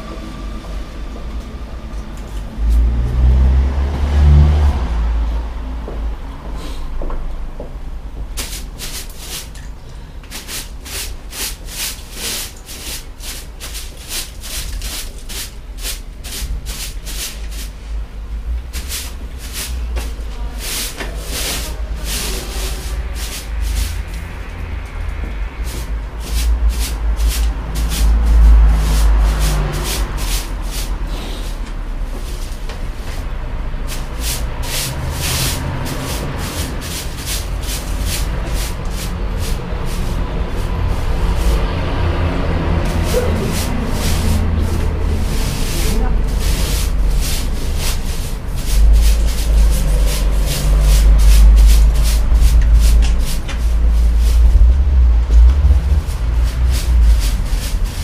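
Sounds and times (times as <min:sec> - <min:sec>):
steady low rumble: 0:00.0 - 0:58.0
broom sweeping steps: 0:00.1 - 0:58.0
brush scratching hard surface: 0:08.4 - 0:09.6, 0:10.2 - 0:58.0.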